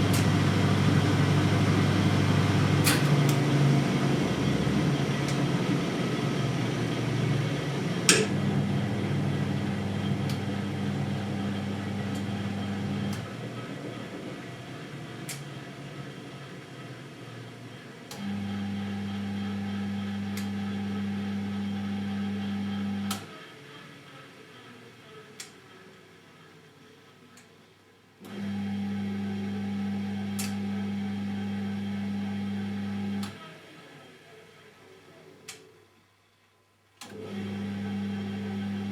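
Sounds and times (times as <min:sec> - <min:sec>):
washing machine electric hum: 0:00.0 - 0:38.9.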